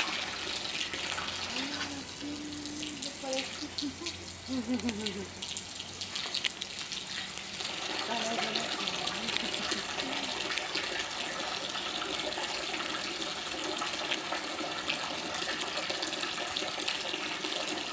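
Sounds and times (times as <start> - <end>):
water running and splashing: 0.0 - 17.9.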